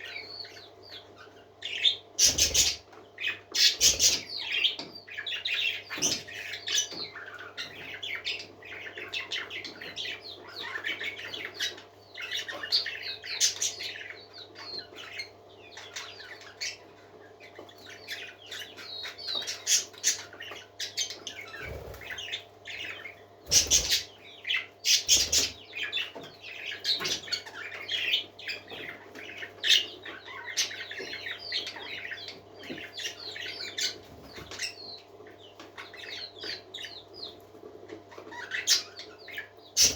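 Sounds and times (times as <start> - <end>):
parakeets chattering: 0.0 - 39.9.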